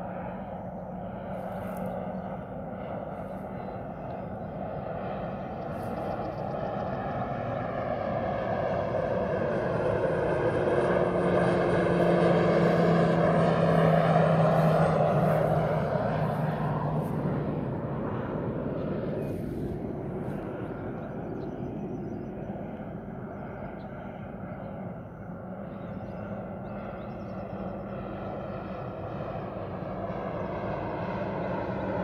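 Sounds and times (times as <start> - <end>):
propeller aircraft flying past: 0.0 - 32.0.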